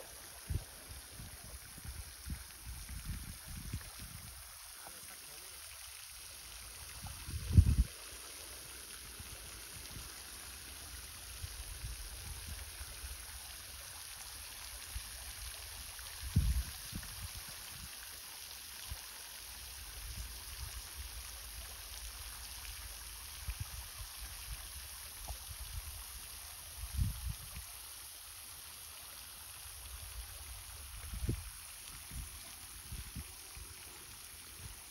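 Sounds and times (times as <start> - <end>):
fountain spray splashing: 0.0 - 34.9.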